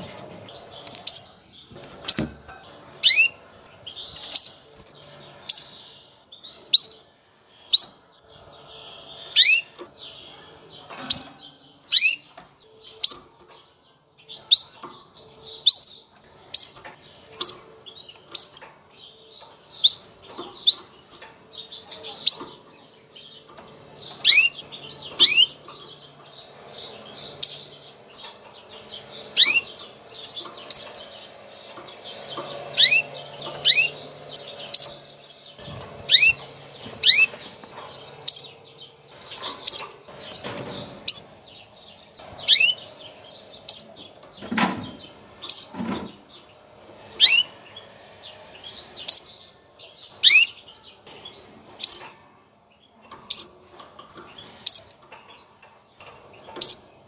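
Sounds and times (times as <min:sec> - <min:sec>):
canary chirping: 0:00.0 - 0:57.0.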